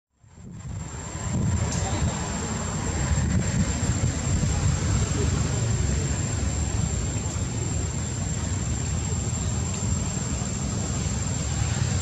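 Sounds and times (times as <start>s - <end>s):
high-pitched whine: 0.2s - 12.0s
low rumbling background noise: 0.2s - 12.0s.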